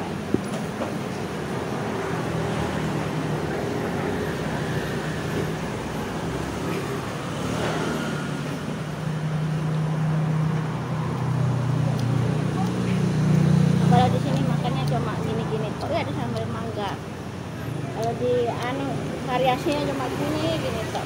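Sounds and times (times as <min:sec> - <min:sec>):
road traffic with engine hum: 0:00.0 - 0:21.0.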